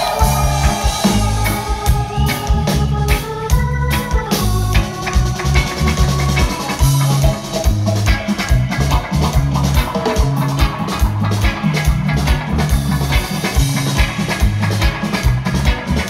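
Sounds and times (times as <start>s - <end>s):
heavy bass line: 0.0s - 16.0s
reggae band playing: 0.0s - 16.0s.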